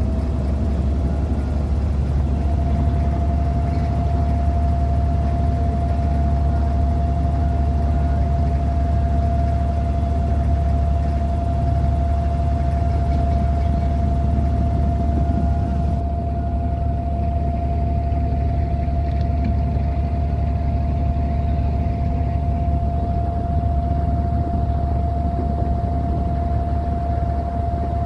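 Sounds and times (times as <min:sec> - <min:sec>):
boat diesel engine droning: 0:00.0 - 0:28.0.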